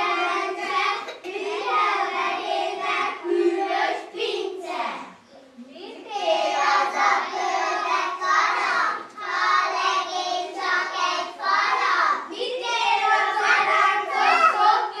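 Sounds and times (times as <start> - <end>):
children singing together: 0.0 - 5.4, 6.0 - 15.0.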